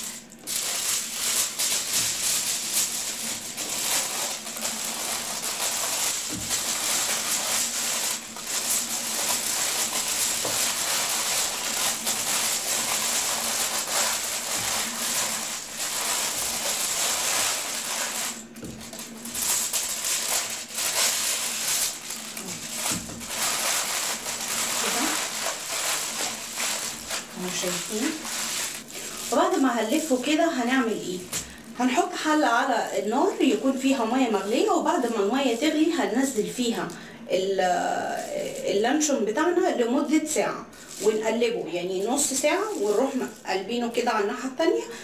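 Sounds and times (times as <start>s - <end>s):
aluminium foil crinkling: 0.0s - 37.0s, 37.7s - 44.1s.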